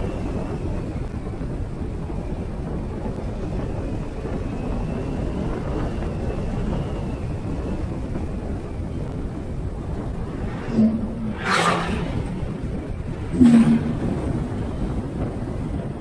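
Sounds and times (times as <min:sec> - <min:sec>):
scooter engine and road rumble: 0:00.0 - 0:16.0
wind rush on microphone: 0:00.0 - 0:16.0.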